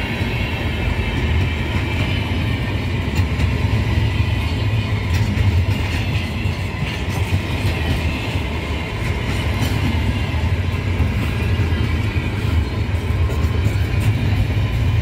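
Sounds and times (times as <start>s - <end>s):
freight train wheels rumbling: 0.0s - 15.0s
wheels clicking over rail joints: 0.0s - 15.0s.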